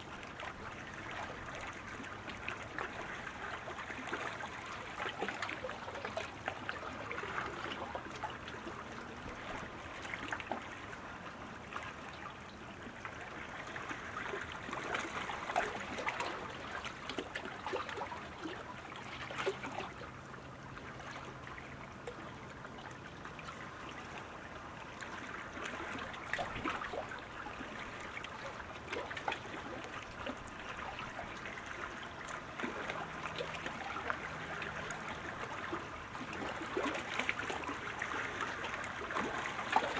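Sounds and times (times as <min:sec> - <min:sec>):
kayak paddles splashing water: 0:00.0 - 0:39.9.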